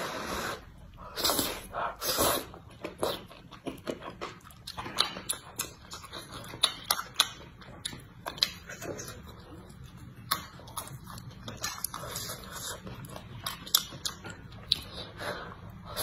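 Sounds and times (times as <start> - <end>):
wet chewing with lip-smacking: 1.2 - 16.0.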